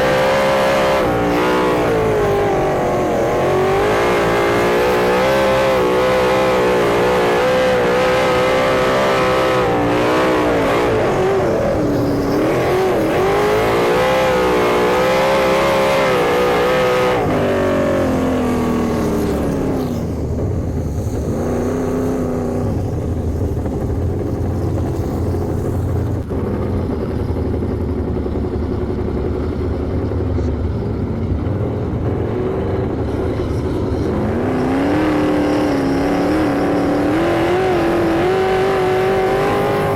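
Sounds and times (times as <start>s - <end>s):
sprint car engines revving: 0.0s - 39.9s.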